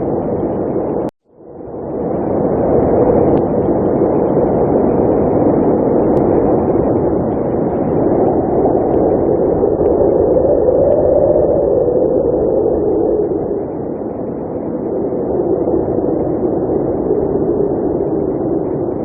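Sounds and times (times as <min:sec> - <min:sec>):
blizzard wind blowing: 0:00.0 - 0:19.0.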